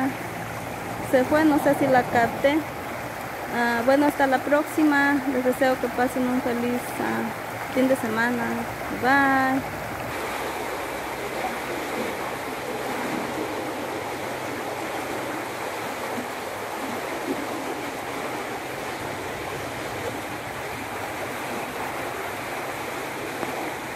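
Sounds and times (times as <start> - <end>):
river rushing over stones: 0.0 - 23.9.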